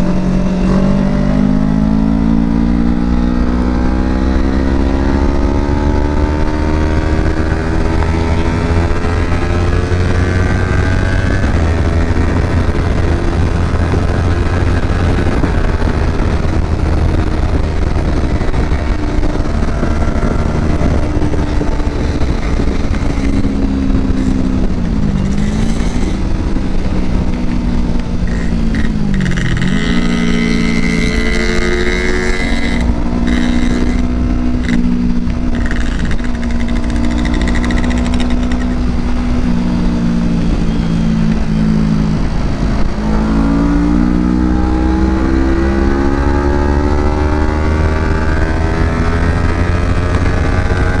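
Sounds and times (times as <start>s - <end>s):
motorcycle engine while riding: 0.0s - 51.0s.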